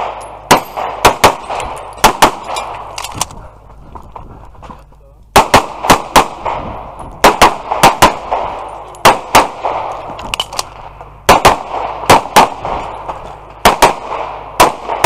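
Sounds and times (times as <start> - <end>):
pistol shots with ringing echo: 0.0 - 3.0, 5.3 - 15.0.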